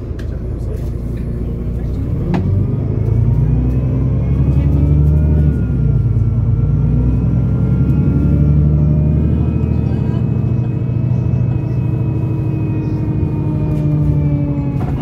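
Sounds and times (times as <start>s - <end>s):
bus engine accelerating with whine: 0.0s - 15.0s.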